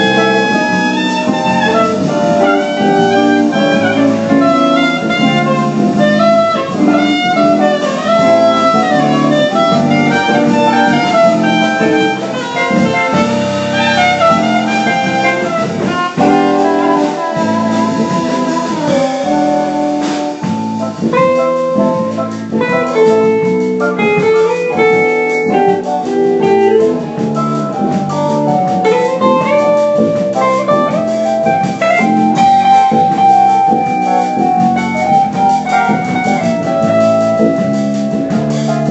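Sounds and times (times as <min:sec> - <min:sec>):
jazz ensemble playing: 0:00.0 - 0:38.9
jazz guitar: 0:00.0 - 0:38.9.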